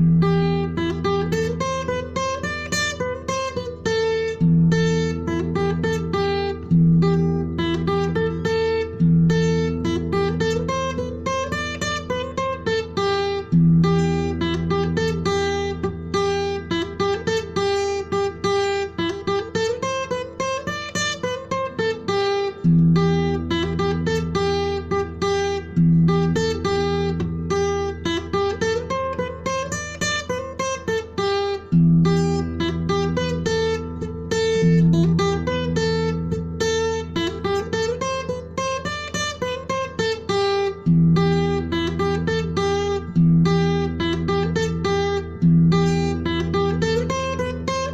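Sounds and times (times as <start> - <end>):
acoustic guitar playing: 0.0 - 47.9.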